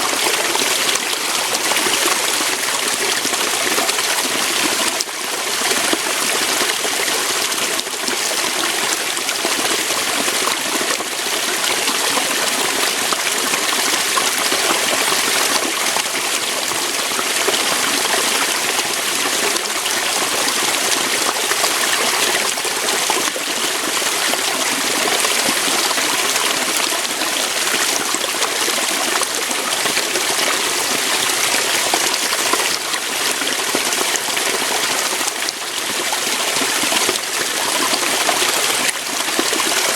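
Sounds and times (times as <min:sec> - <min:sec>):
waterfall splashing over rocks: 0:00.0 - 0:39.9.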